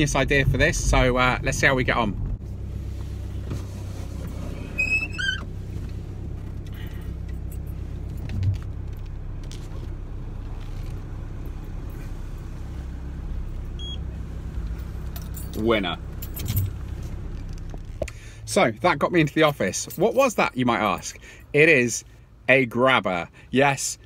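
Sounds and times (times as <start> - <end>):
car engine idling: 0.0 - 23.5.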